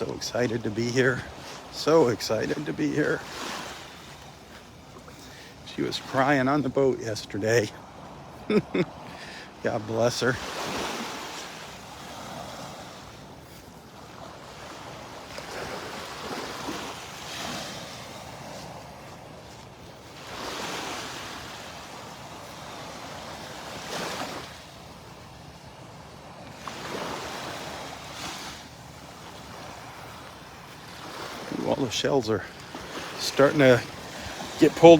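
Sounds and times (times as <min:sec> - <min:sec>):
waves breaking on sand: 0:00.0 - 0:34.9.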